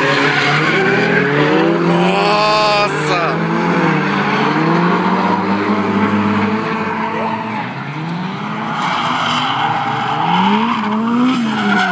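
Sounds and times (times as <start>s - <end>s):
car engines revving: 0.0s - 11.9s
tyres squealing and skidding: 0.0s - 11.9s.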